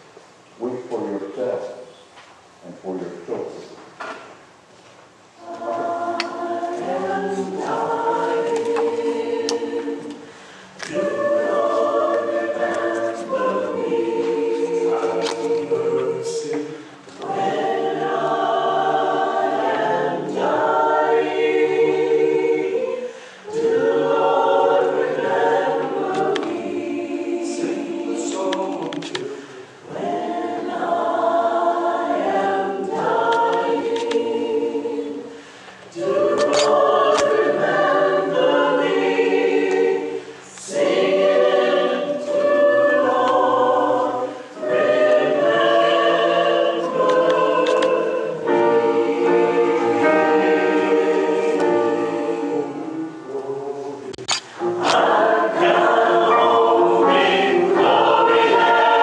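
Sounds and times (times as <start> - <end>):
mixed-voice choir singing: 5.3 - 59.0.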